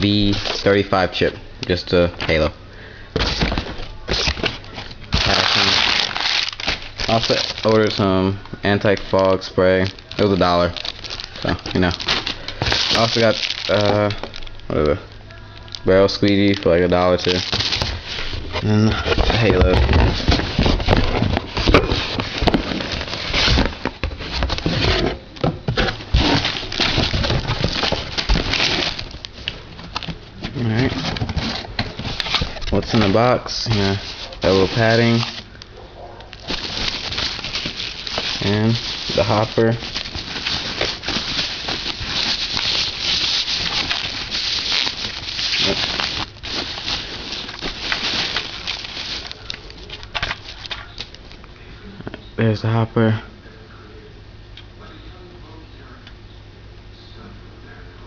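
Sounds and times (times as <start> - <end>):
packaging rustling and scraping: 0.0 - 2.5, 3.2 - 51.4
sharp plastic crackles: 3.2 - 51.5.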